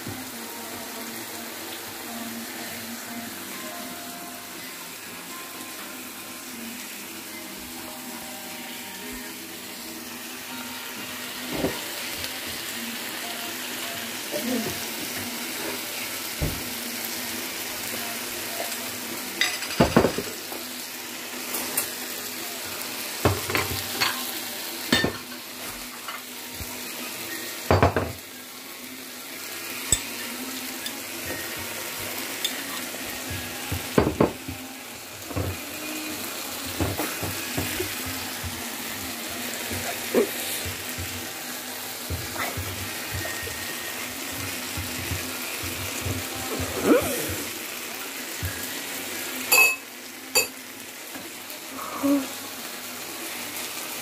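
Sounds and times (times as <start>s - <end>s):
stir-fry sizzling in a frying pan: 0.0s - 54.0s.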